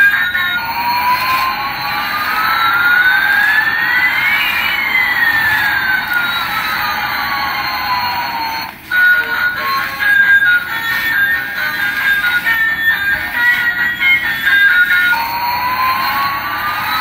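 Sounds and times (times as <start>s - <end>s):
sliding whistling tones: 0.0s - 17.0s.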